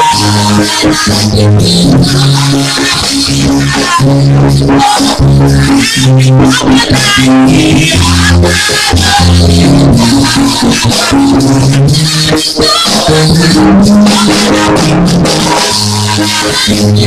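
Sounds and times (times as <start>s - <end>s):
bass line: 0.0s - 17.0s
rattling percussion beat: 0.0s - 17.0s.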